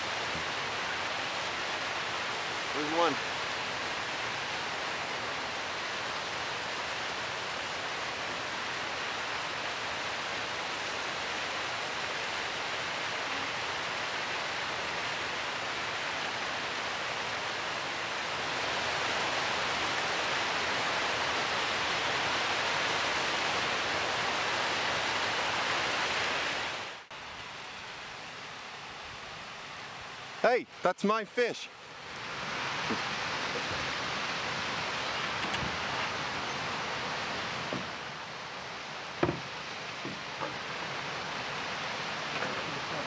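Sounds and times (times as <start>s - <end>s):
quiet wash of water: 0.0s - 30.4s, 31.0s - 43.0s
river water rushing: 0.0s - 43.0s.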